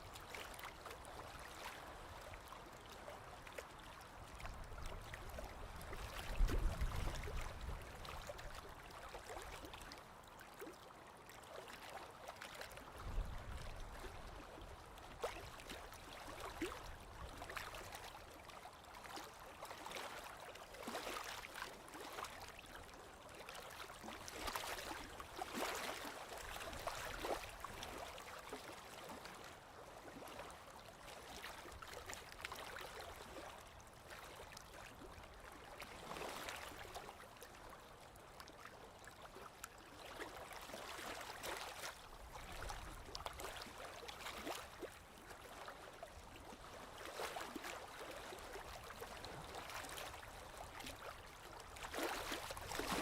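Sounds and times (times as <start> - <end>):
lake waves lapping on shore: 0.0 - 53.0.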